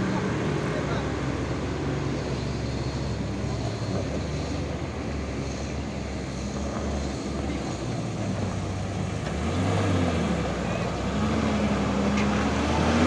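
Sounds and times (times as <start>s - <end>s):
bus diesel engine rumbling: 0.0s - 13.0s
road noise: 0.0s - 13.0s
wind: 0.0s - 13.0s.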